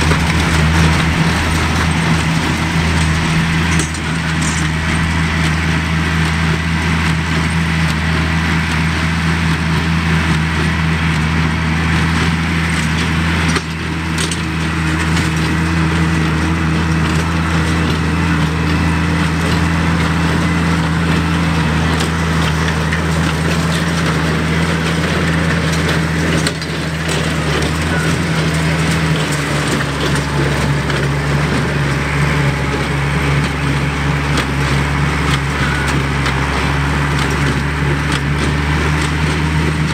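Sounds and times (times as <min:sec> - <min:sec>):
baler plunger crunching hay: 0:00.0 - 0:39.9
tractor engine running: 0:00.0 - 0:39.9.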